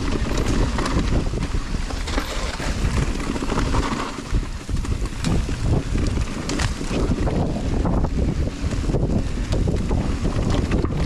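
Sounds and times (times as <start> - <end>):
bike rattling over stones: 0.0 - 11.0
wind buffeting microphone: 0.0 - 11.0.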